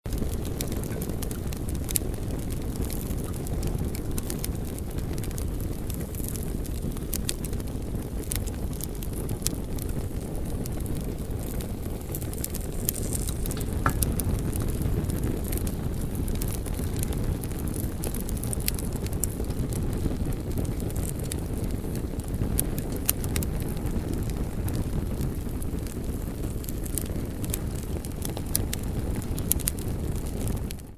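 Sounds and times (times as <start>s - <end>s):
crackles and pops of burning wood: 0.1s - 30.9s
wood fire burning: 0.1s - 30.9s.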